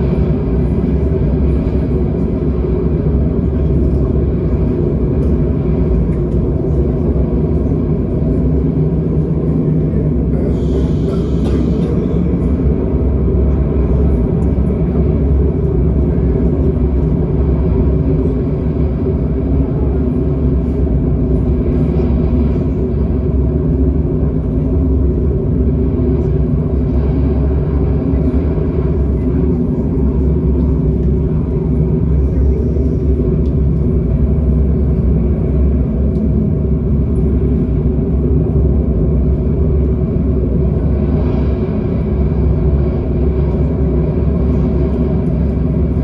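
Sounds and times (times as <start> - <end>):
loud low rumble: 0.0 - 46.0.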